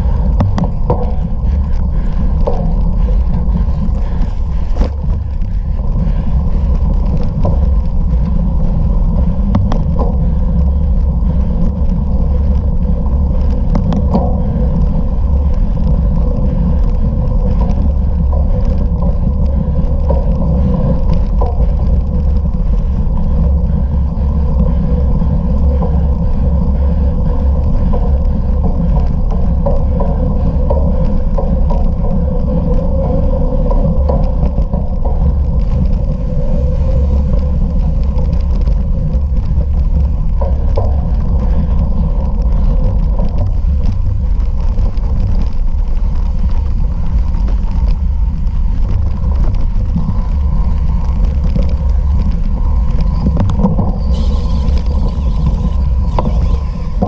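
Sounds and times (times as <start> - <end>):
bicycle rolling noise: 0.0 - 57.0
clicks and knocks from rough ground: 0.0 - 57.0
wind on microphone: 0.0 - 57.0.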